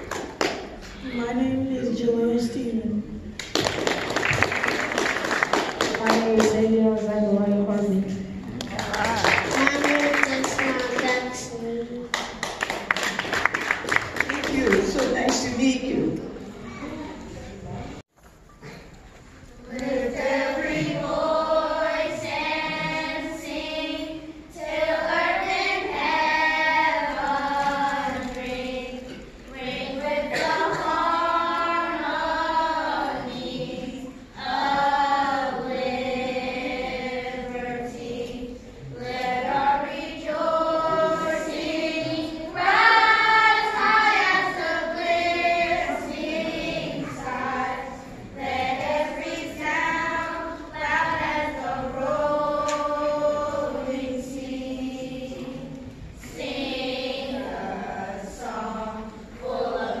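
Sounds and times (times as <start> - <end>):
children's choir singing: 0.0 - 2.9, 3.6 - 15.6, 19.6 - 60.0.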